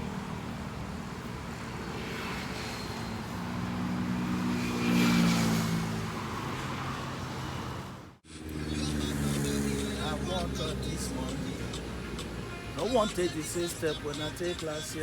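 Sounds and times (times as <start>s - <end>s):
vehicle engine passing by: 0.0s - 12.5s.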